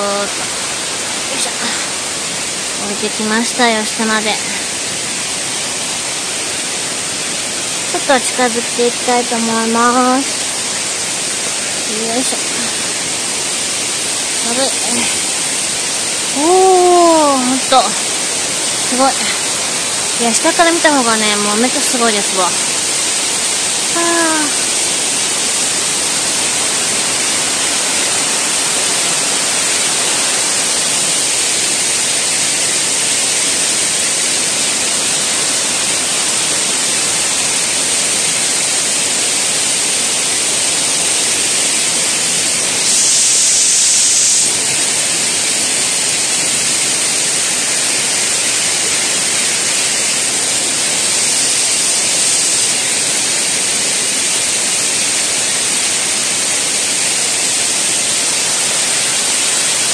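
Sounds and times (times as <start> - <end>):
waterfall rushing onto rock: 0.0 - 59.9.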